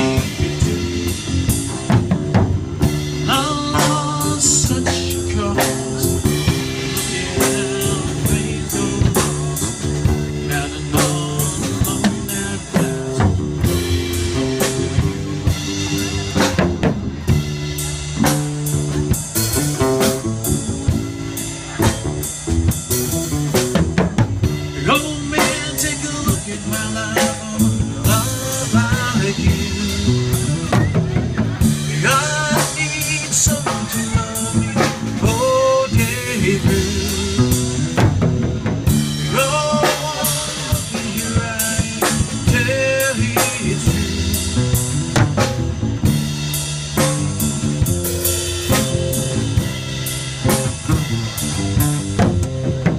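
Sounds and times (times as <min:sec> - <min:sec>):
acoustic bass guitar: 0:00.0 - 0:52.9
drum kit playing a beat: 0:00.0 - 0:52.9.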